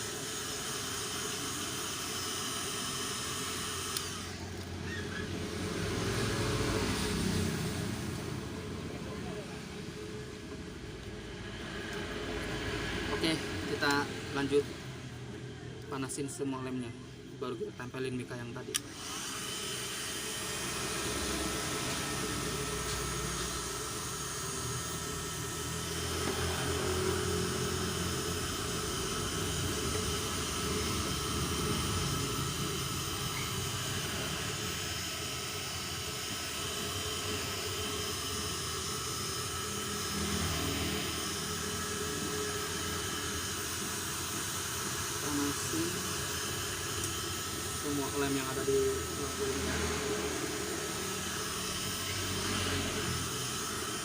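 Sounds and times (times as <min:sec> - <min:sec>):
heat gun blowing air: 0:00.0 - 0:08.6, 0:18.7 - 0:54.0.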